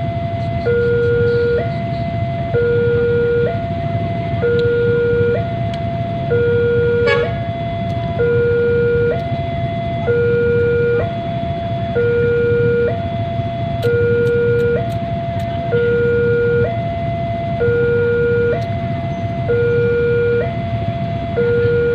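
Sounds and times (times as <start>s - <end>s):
low rumble of traffic: 0.0s - 21.9s
two-tone hi-lo siren: 0.0s - 21.9s.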